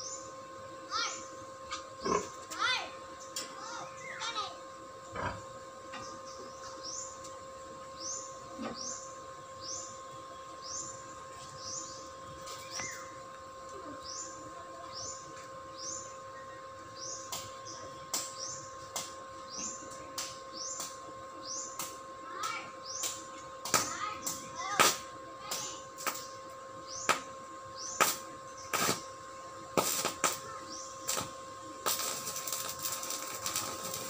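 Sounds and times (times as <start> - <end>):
high-pitched hum: 0.0 - 34.0.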